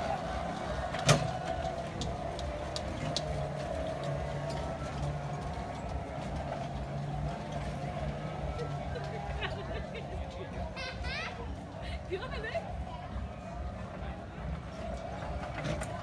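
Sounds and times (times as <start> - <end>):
go-kart motor hum: 0.0 - 16.0.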